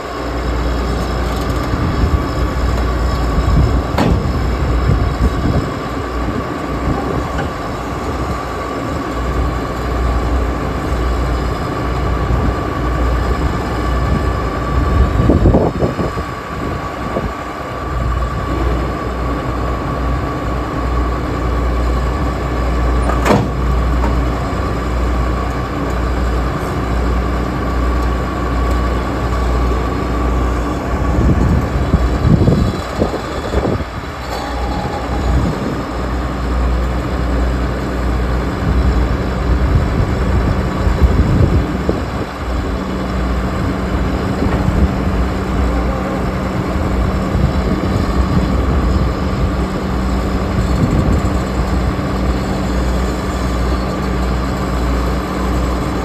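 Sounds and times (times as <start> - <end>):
diesel engine running and revving: 0.0 - 56.0.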